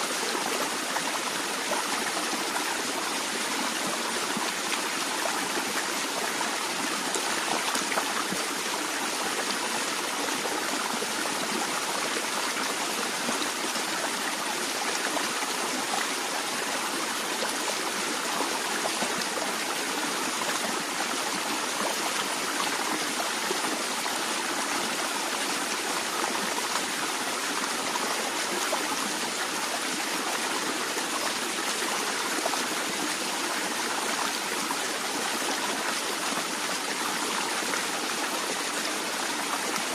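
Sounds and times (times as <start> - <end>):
water flowing gently: 0.0 - 39.9.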